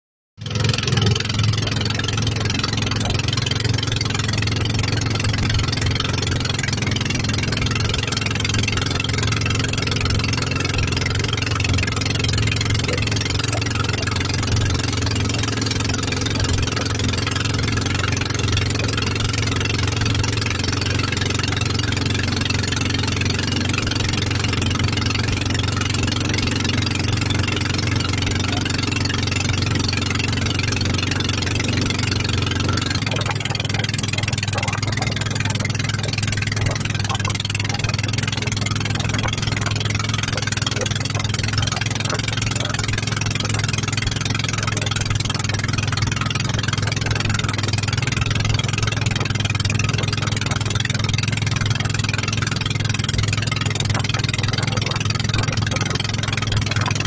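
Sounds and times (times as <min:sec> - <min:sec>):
boat engine droning: 0:00.4 - 0:57.0
water rushing past hull: 0:00.4 - 0:57.0.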